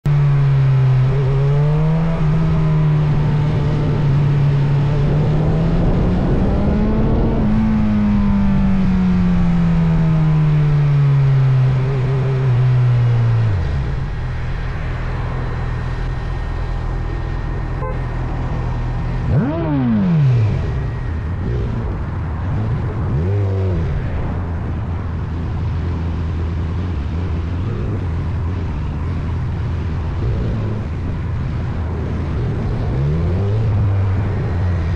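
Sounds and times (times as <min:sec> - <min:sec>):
motorcycle engine revving and idling: 0:00.0 - 0:34.9
wind and road noise: 0:00.0 - 0:34.9.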